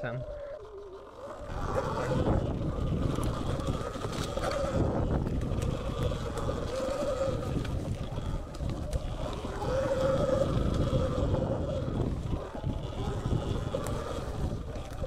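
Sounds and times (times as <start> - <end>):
electric motor whine: 0.0 - 15.0
wind rumbling on microphone: 0.0 - 15.0.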